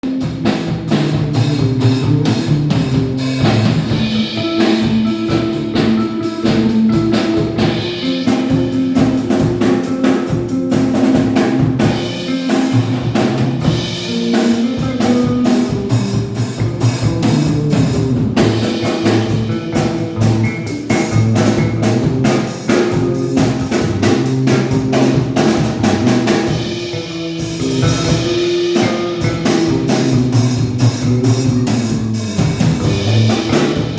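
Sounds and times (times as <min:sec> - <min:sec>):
bass: 0:00.0 - 0:33.9
drum kit beat: 0:00.0 - 0:33.9
sustained keyboard or guitar notes: 0:00.1 - 0:33.9.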